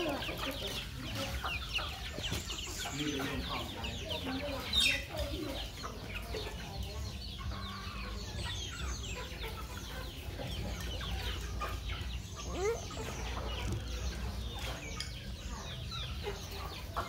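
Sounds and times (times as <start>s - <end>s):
chickens clucking and calling: 0.0s - 17.0s.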